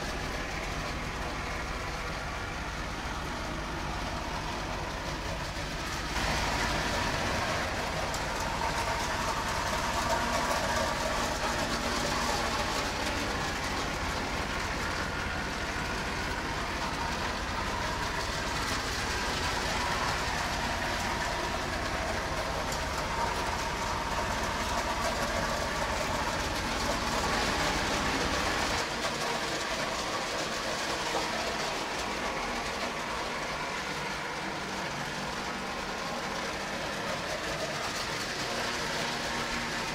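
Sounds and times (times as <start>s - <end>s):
toy trains running on track: 0.0s - 39.9s.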